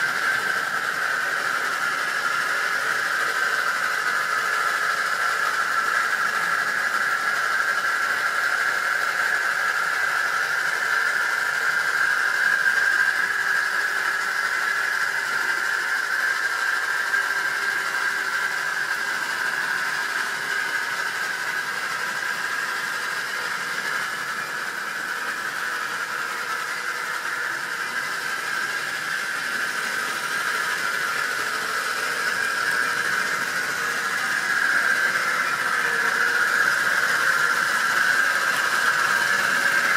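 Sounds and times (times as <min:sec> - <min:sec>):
model train motor whine: 0:00.0 - 0:39.9.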